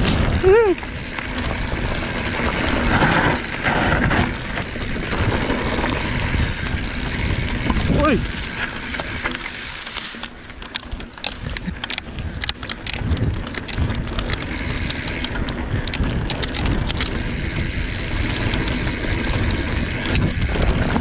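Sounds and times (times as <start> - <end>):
bike clicks and rattles: 0.0 - 21.0
bike tyre and frame rumble: 0.0 - 21.0.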